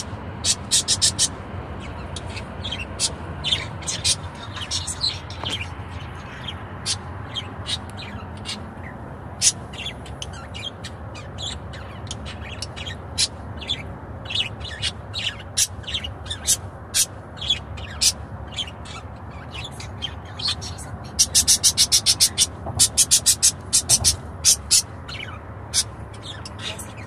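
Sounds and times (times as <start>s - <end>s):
parrots chirping and squawking: 0.0s - 27.0s
car cabin rumble: 1.8s - 21.6s, 22.2s - 27.0s.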